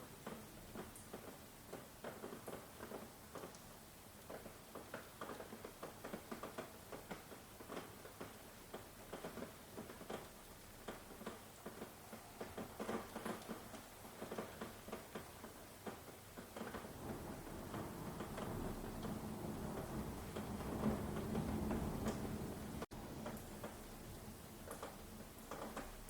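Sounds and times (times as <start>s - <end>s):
rain drops pattering: 0.0s - 26.0s.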